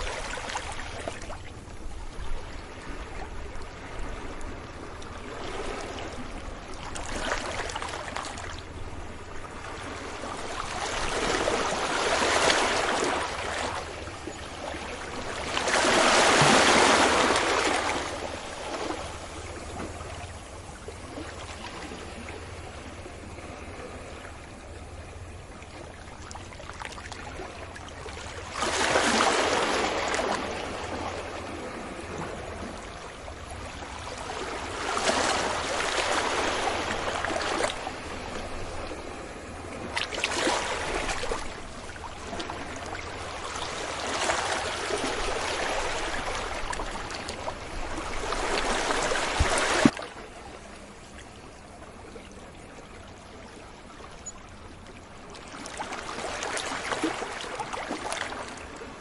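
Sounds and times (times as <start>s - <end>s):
sea waves breaking on a beach: 0.0s - 59.0s.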